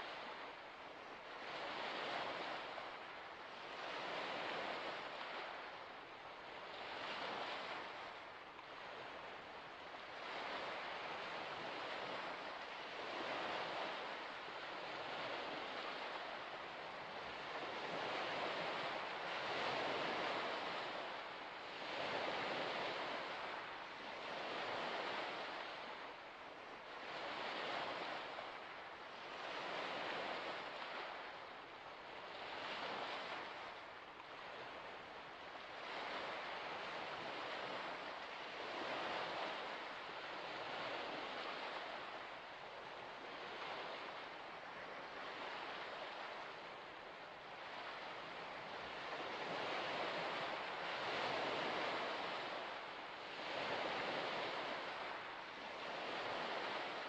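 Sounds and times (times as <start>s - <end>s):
small waves washing onto shore: 0.0s - 57.0s.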